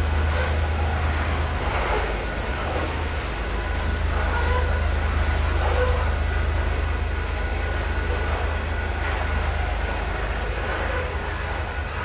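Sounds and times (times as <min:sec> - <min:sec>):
freight train rumbling by: 0:00.0 - 0:12.0.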